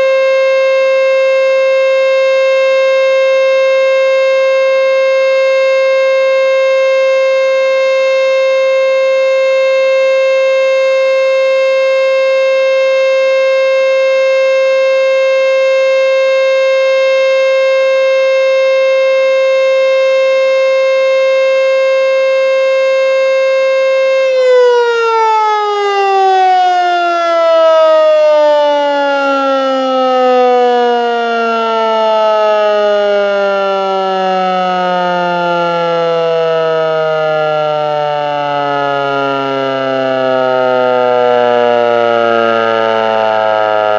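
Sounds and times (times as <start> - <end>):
siren winding down: 0.0 - 43.9
warning siren steady tone: 0.0 - 43.9.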